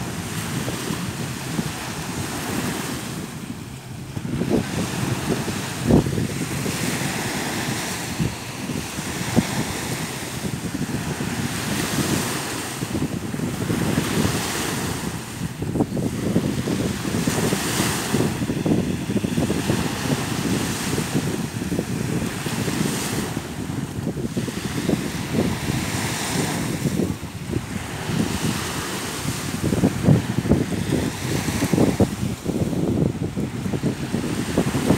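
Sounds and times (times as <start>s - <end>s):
small waves breaking on shore: 0.0s - 34.9s
wind rumbling on microphone: 0.0s - 34.9s.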